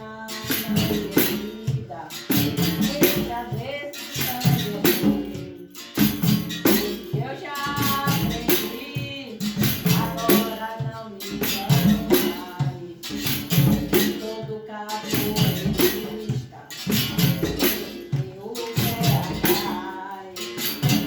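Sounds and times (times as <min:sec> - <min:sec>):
person singing: 0:00.0 - 0:21.0
rattling percussion: 0:00.0 - 0:21.0.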